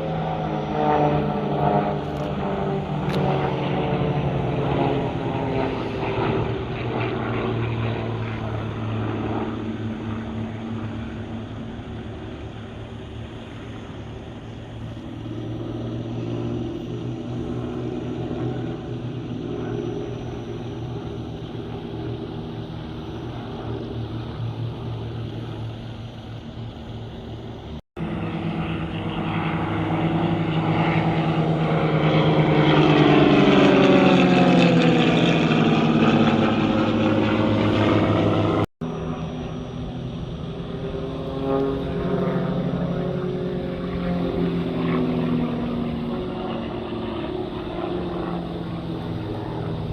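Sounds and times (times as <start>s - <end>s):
aircraft engines droning: 0.0s - 49.9s.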